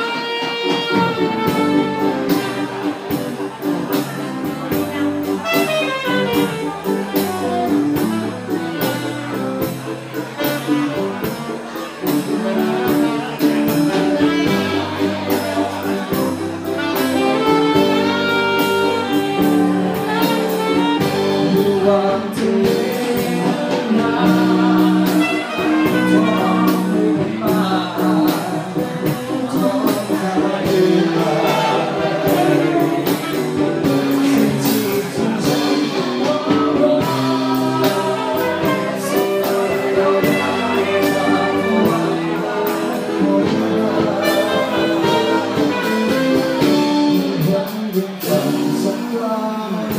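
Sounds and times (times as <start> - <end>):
drums keeping a beat: 0.0 - 49.9
electric guitar: 0.0 - 49.9
live band playing: 0.0 - 49.9
person singing: 0.0 - 49.9
saxophone: 0.0 - 49.9.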